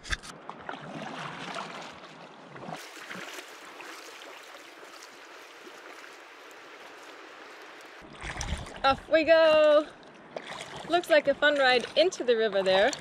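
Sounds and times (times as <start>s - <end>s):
kayak paddle splashing: 0.4s - 13.0s
water lapping: 0.4s - 13.0s.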